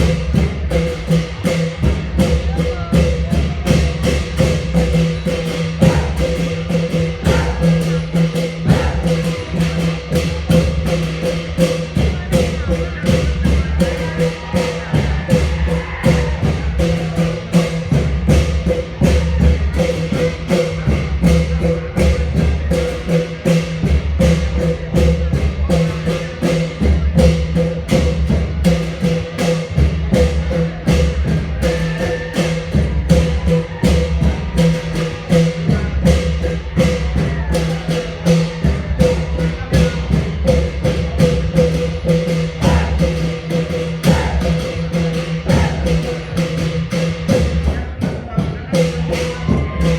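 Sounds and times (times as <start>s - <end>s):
deep drum beats: 0.0s - 49.9s.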